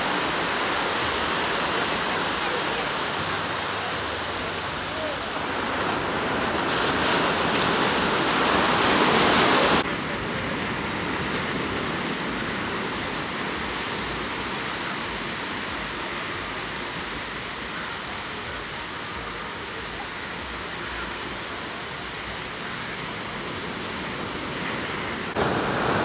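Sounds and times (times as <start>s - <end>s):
surf washing on sandy beach: 0.0s - 26.0s.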